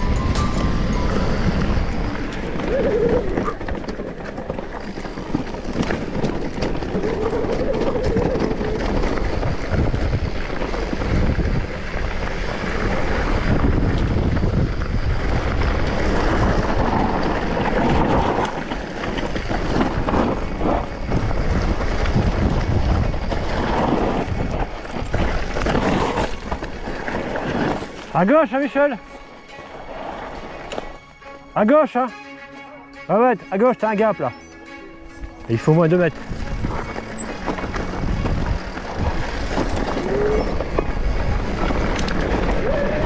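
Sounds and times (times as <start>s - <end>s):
wind rumbling on microphone: 0.0s - 28.2s, 35.2s - 43.0s
bike tyres on dirt and stones: 0.0s - 31.3s, 35.1s - 43.0s
bike clattering over bumps: 0.2s - 28.8s, 36.2s - 42.8s.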